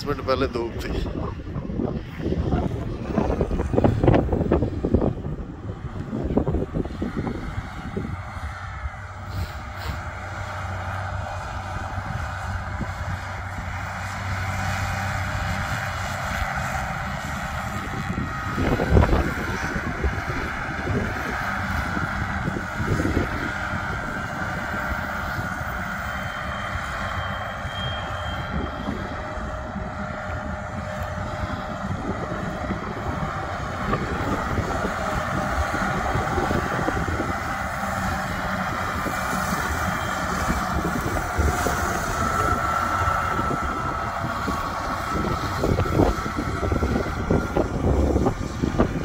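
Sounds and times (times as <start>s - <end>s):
tractor engine running: 0.0s - 49.0s
wind rumbling on microphone: 0.0s - 49.0s.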